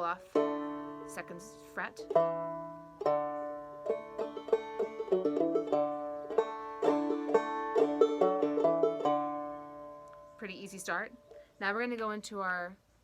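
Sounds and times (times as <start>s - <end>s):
banjo plucked notes: 0.0s - 11.4s.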